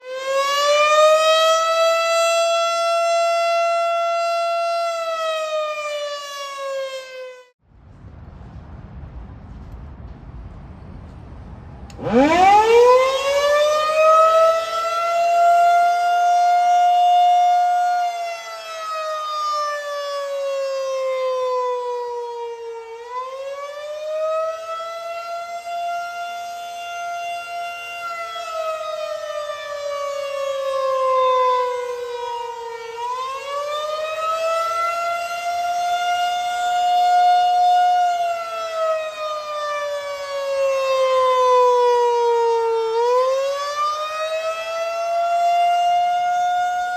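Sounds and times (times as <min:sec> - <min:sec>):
siren wailing up and down: 0:00.0 - 0:07.6, 0:11.9 - 0:46.9.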